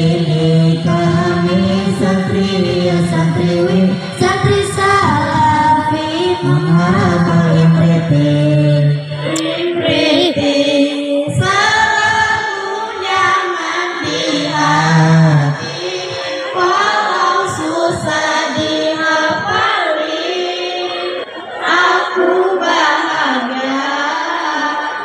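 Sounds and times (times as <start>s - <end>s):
boys singing in unison: 0.0s - 25.0s.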